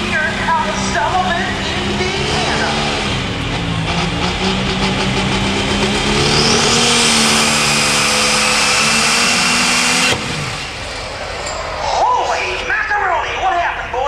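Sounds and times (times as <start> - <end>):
tractor diesel engine at full throttle: 0.0 - 12.7
high turbo whine: 0.0 - 13.4.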